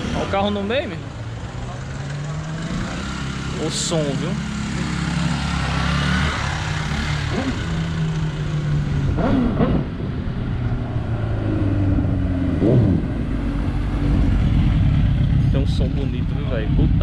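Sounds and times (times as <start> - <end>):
car traffic: 0.0 - 17.0
motorcycle riding past: 1.3 - 16.1.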